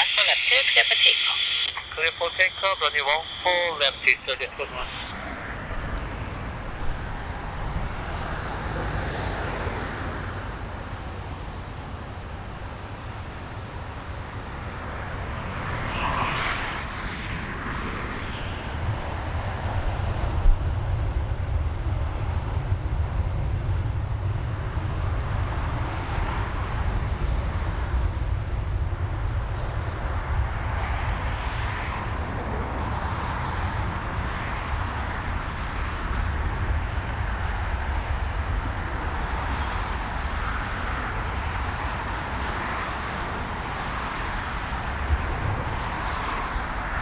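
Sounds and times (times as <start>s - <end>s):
jet airliner engine: 0.0s - 47.0s
wind rumble on microphone: 4.3s - 47.0s.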